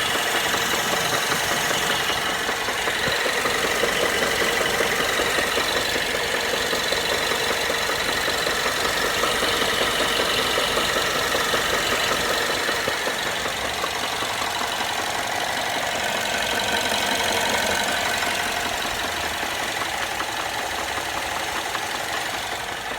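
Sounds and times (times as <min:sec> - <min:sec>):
car engine idling: 0:00.0 - 0:22.9
fast tapping engine knock: 0:00.0 - 0:22.9.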